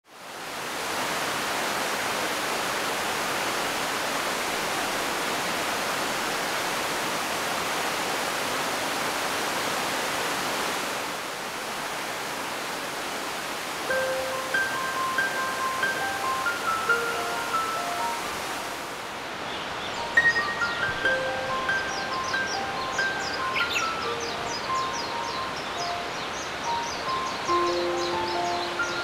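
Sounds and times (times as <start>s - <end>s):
water rushing over rocks: 0.1s - 29.0s.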